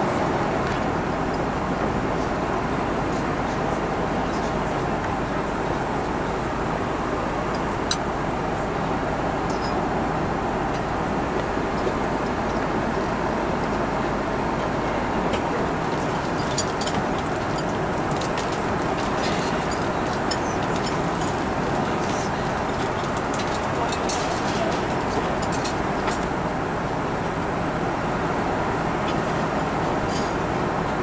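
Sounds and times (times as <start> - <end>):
airliner cabin noise: 0.0 - 31.0.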